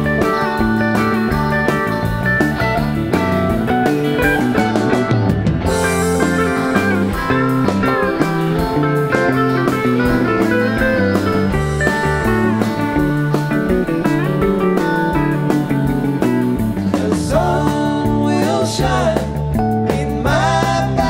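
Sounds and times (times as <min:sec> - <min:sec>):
bass: 0:00.0 - 0:21.0
drums: 0:00.0 - 0:21.0
electric guitars: 0:00.0 - 0:21.0
keyboards: 0:00.0 - 0:21.0.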